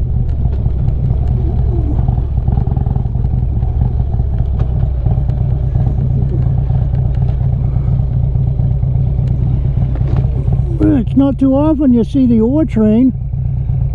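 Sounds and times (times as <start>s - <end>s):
motorcycle engine running at low revs: 0.0s - 13.9s.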